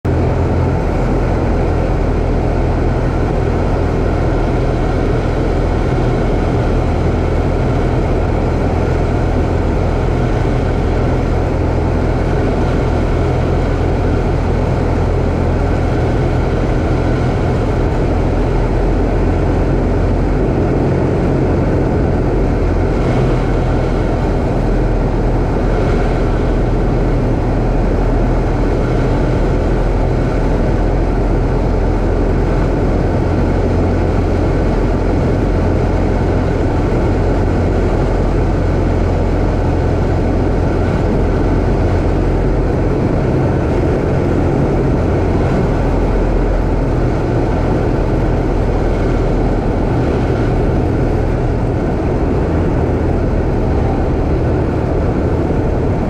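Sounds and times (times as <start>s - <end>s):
propeller plane engine droning: 0.0s - 56.0s
wind rushing: 2.0s - 56.0s.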